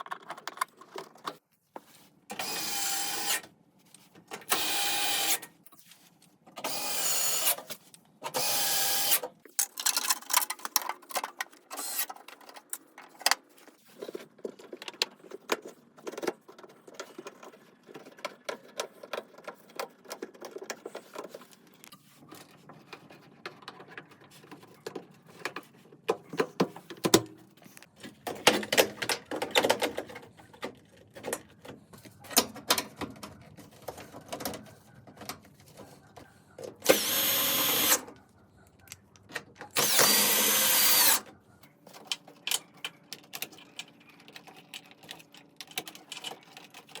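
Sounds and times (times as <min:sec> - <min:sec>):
tools clicking and knocking on metal: 0:09.1 - 0:47.0.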